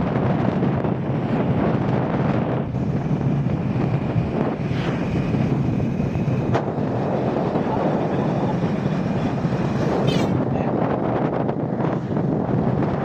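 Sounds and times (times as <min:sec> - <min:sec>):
motorcycle running and road noise: 0:00.0 - 0:13.0
wind rush on microphone: 0:00.0 - 0:13.0.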